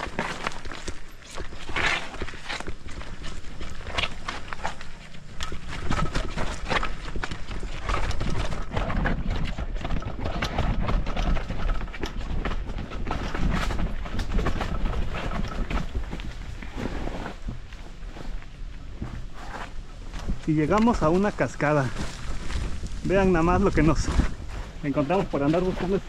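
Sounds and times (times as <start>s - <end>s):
horse hooves clip-clopping: 0.0s - 26.0s.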